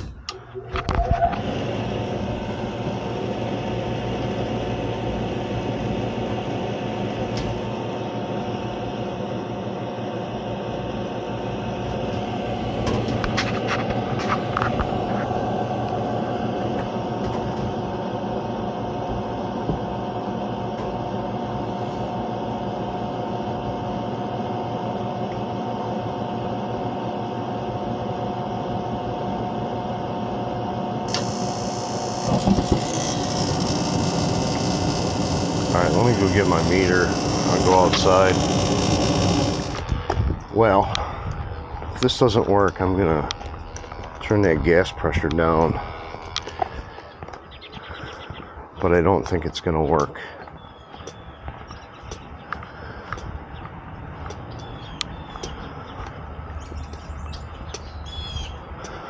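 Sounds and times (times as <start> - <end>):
heating unit fan humming: 0.0 - 59.0.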